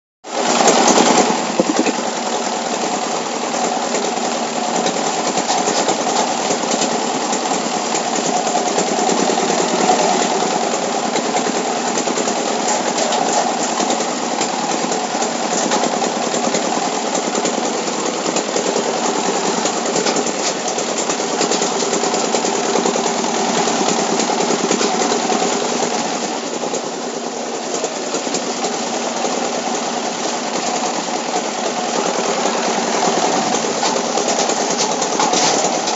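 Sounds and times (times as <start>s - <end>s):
rapid machine clatter: 0.3s - 35.9s
washing machine mechanical hum: 0.4s - 35.9s.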